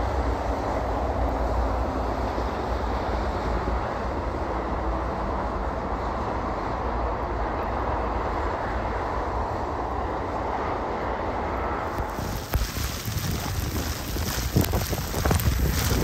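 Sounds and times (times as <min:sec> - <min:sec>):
highway traffic rumble and hiss: 0:00.0 - 0:16.0.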